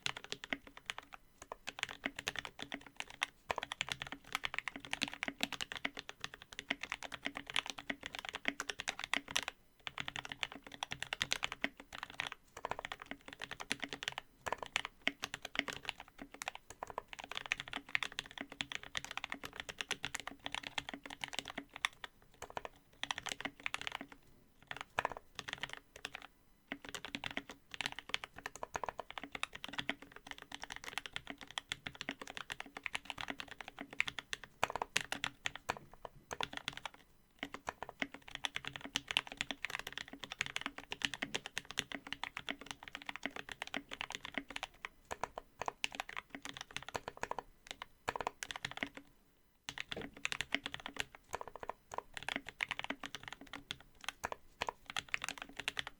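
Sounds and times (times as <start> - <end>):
typing on mechanical keyboard: 0.0 - 49.1, 49.7 - 55.9.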